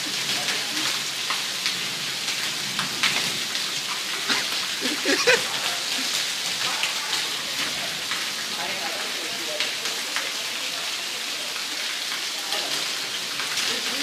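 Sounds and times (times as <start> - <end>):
heavy rain on wet paving: 0.0 - 14.0.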